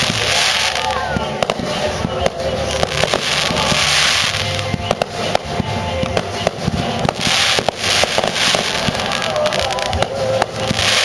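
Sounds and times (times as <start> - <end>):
fireworks bangs: 0.0 - 11.0
fireworks crackling hiss: 0.0 - 11.0
music: 0.0 - 11.0.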